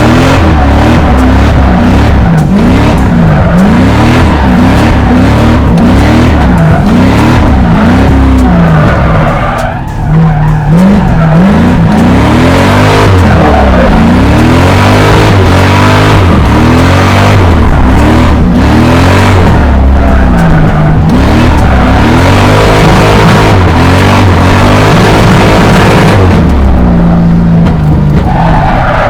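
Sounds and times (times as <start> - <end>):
car engine revving: 0.0 - 29.0
tyres screeching: 0.0 - 29.0.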